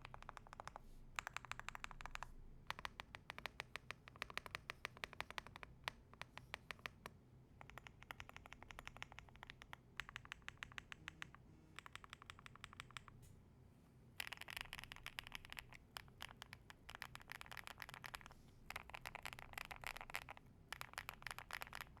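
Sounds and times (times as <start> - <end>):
mechanical keyboard typing: 0.0 - 13.2, 14.2 - 22.0.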